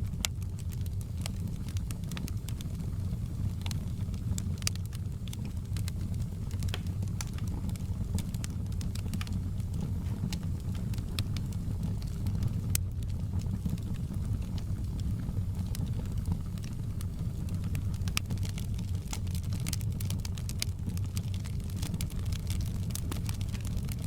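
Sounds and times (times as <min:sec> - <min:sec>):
fire crackling and popping: 0:00.0 - 0:24.0
fire rumbling: 0:00.0 - 0:24.0.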